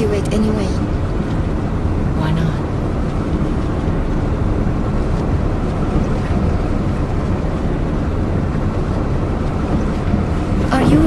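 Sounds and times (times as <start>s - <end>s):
bus rumbling inside cabin: 0.0s - 11.0s.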